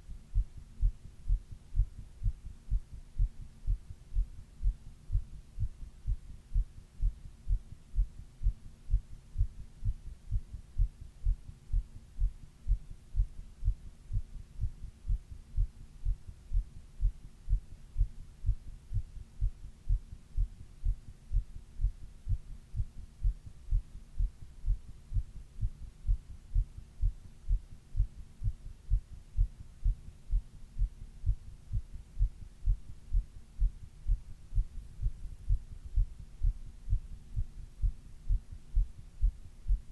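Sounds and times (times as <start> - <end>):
faint hum: 0.0 - 39.9
heartbeat thumps: 0.0 - 39.9.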